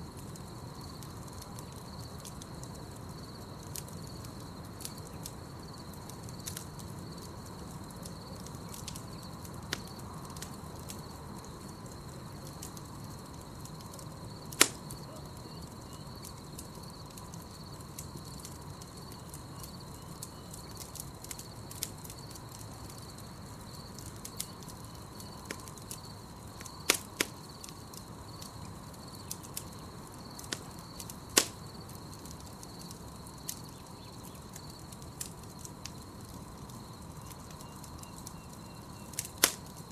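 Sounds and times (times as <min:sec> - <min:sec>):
campfire crackling and popping: 0:00.0 - 0:39.9
night insects chirring: 0:00.0 - 0:39.9.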